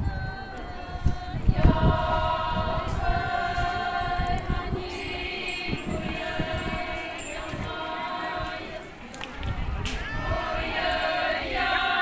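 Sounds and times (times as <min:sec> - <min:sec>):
women singing a chant: 0:00.0 - 0:12.0.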